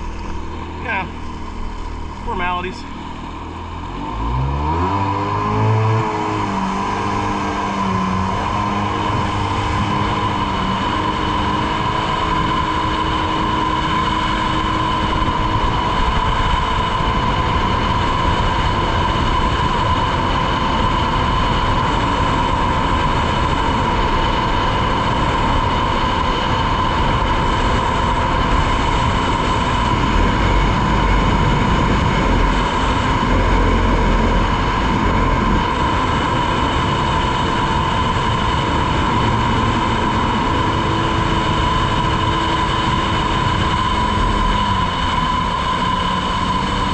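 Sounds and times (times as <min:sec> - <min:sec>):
watercraft engine whining at speed: 0:00.0 - 0:46.9.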